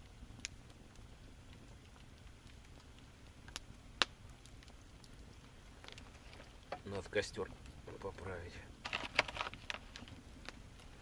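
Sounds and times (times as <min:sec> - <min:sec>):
burning wood popping: 0:00.0 - 0:11.0
campfire crackling: 0:00.0 - 0:11.0.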